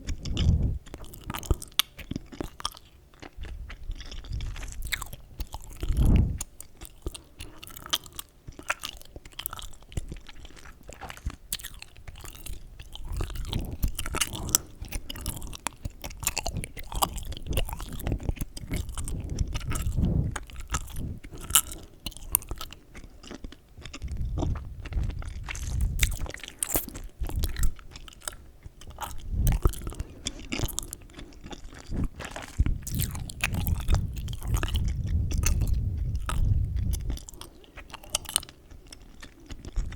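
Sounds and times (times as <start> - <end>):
low rumble of breath: 0.0 - 1.8, 3.4 - 8.1, 11.3 - 39.9
gum chewing mouth clicks: 0.0 - 39.9.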